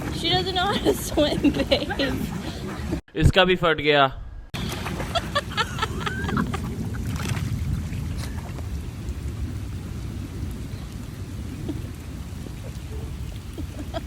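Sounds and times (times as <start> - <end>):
wind and rain: 0.0 - 3.0, 4.2 - 14.0.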